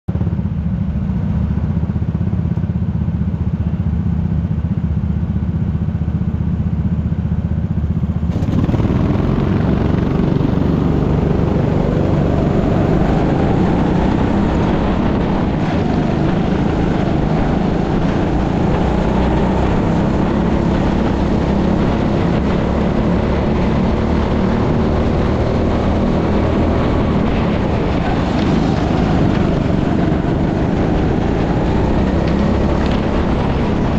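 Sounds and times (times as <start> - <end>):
kart engine running at racing speed: 0.1 - 33.9
other kart engines nearby: 0.1 - 33.9.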